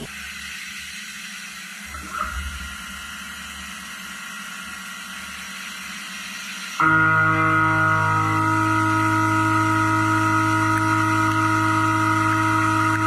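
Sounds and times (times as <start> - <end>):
machinery hiss and hum: 0.0 - 13.0.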